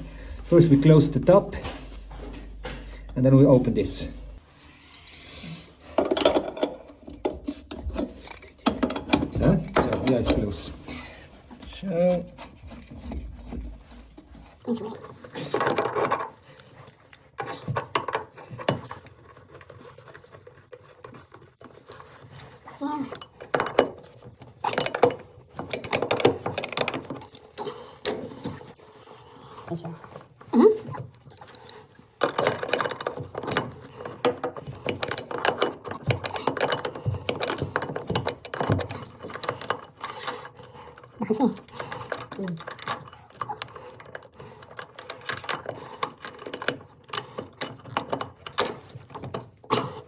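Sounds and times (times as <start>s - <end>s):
hand tools clicking and knocking: 5.8s - 50.0s.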